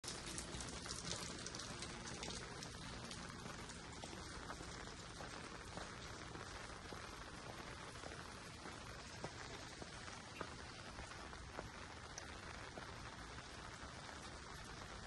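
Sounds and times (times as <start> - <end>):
water patter of fine drops: 0.0 - 15.0.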